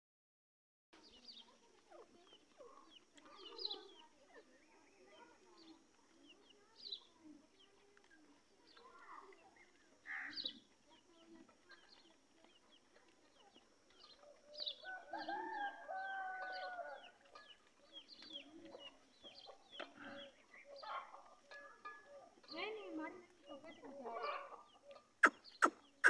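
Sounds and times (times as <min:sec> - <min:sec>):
birds chirping and calling: 0:01.0 - 0:26.0.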